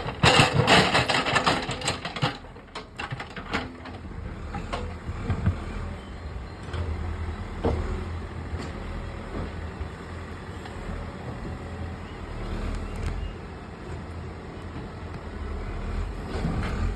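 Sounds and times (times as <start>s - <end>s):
heavy machine engine rumbling: 0.0s - 16.9s.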